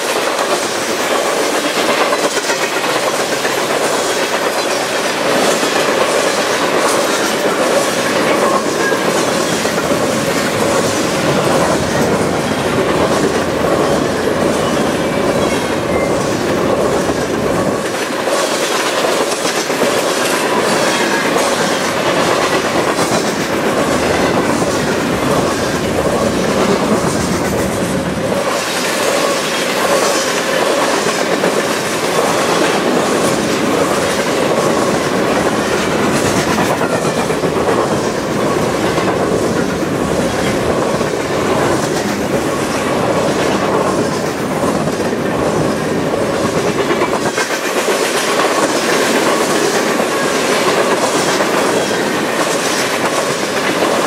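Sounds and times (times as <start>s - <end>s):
freight train rumbling past: 0.0s - 54.0s
wheels clickety-clack: 0.0s - 54.0s.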